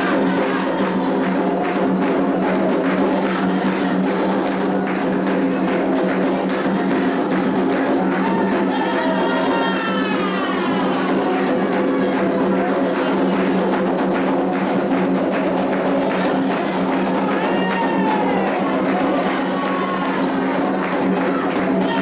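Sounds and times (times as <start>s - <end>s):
fast hand drum rhythm: 0.0s - 22.0s
wooden or bell-like percussion: 0.0s - 22.0s.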